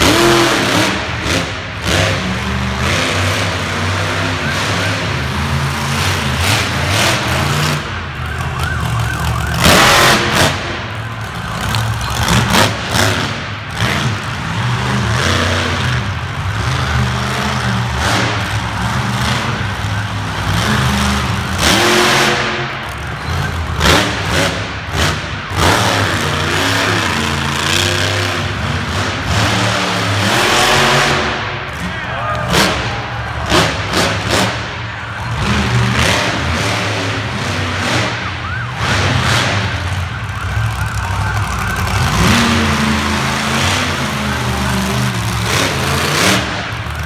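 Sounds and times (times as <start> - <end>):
monster truck engine revving: 0.0 - 47.0.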